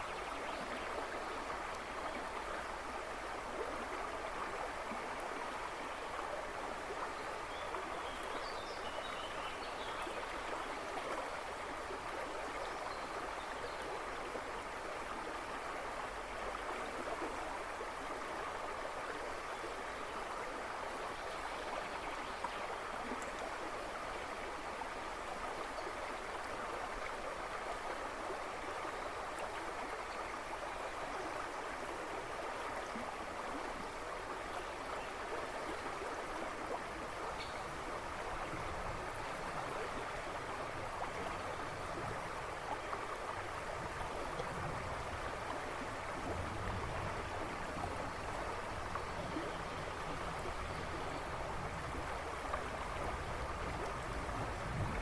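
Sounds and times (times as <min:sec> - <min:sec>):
river rushing and babbling: 0:00.0 - 0:55.0.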